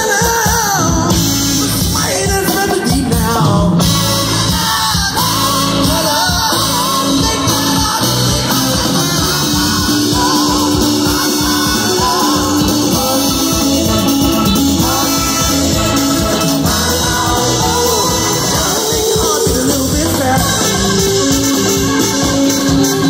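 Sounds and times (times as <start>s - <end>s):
live blues-rock band: 0.0s - 23.0s
person singing: 0.0s - 23.0s.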